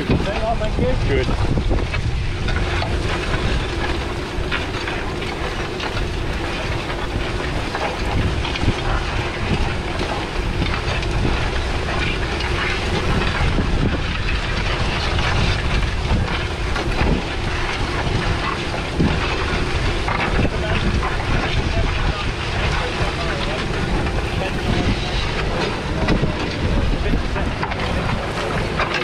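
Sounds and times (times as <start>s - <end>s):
tractor engine drone: 0.0s - 29.0s.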